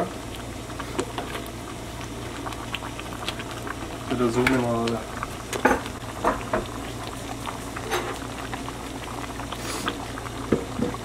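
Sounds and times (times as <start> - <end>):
pan of food bubbling: 0.0 - 11.0.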